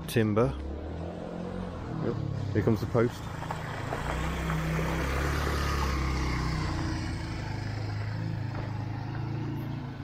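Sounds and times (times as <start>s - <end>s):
vehicle engine driving past: 0.4s - 10.0s.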